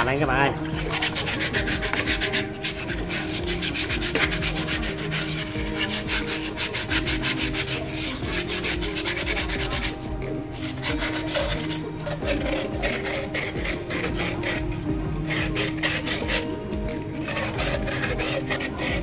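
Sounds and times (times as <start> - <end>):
scrubbing pad rubbing shell: 0.0 - 19.0.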